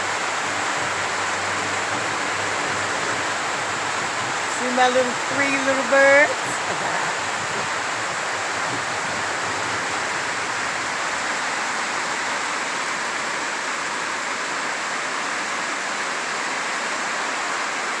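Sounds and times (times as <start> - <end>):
heavy rainfall: 0.0 - 18.0.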